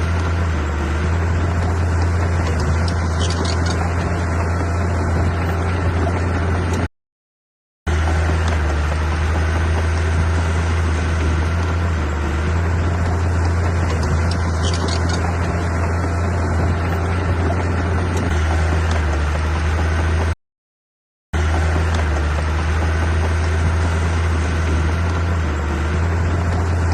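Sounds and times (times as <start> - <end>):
heavy diesel engine humming: 0.0 - 6.9, 7.9 - 20.4, 21.4 - 26.9.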